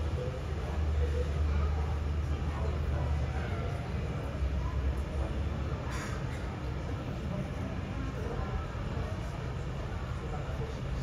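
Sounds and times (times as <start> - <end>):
faint background voices: 0.0 - 11.0.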